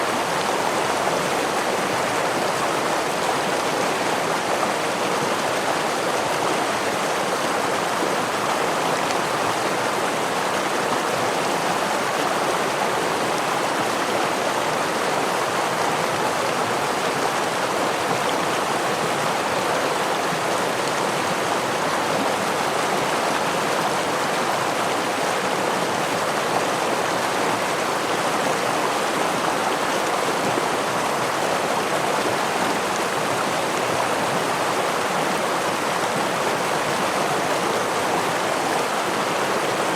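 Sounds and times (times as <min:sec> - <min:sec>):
stream flowing over waterfall: 0:00.0 - 0:39.9.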